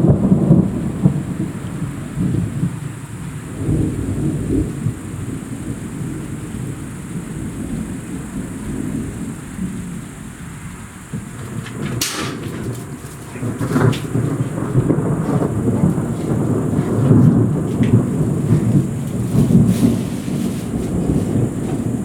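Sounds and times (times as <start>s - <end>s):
heavy rain hissing: 0.0s - 22.0s
rolling thunder: 0.0s - 22.0s.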